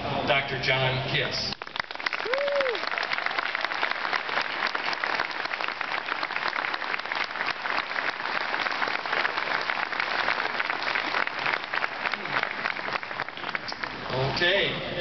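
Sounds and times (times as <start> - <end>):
audience applauding: 1.5 - 14.4.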